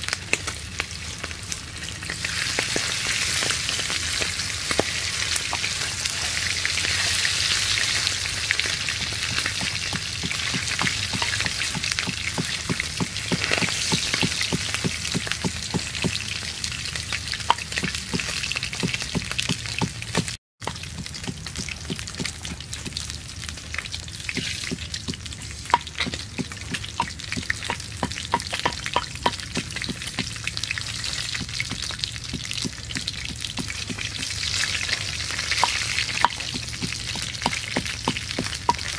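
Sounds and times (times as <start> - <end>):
fish sizzling in hot oil: 0.0 - 38.9
oil crackling spatters: 0.0 - 38.9.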